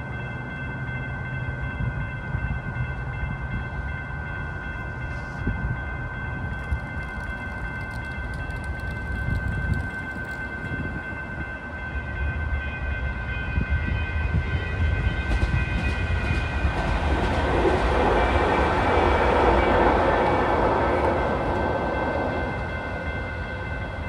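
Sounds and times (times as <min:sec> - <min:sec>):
light rail train running: 0:00.0 - 0:24.0.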